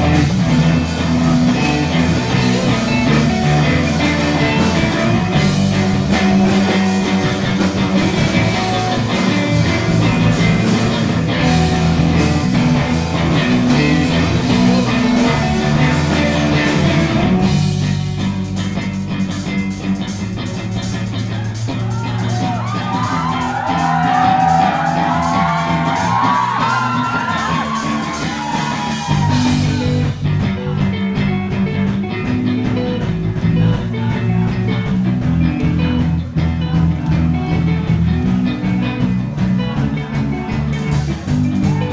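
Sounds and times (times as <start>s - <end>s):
electric guitar: 0.0s - 41.9s
live rock band playing: 0.0s - 41.9s.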